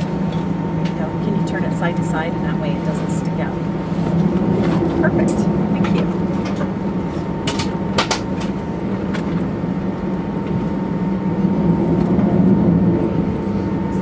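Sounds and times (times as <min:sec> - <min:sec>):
air conditioning hum: 0:00.0 - 0:14.0.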